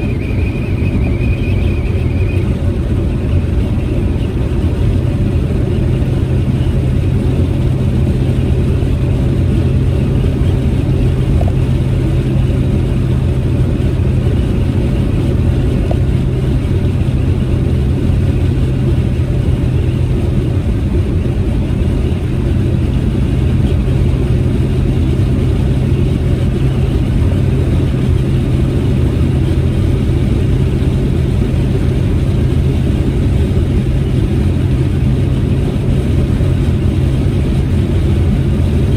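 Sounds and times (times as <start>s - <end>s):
car engine drone: 0.0s - 38.9s
road and tyre noise: 0.0s - 38.9s.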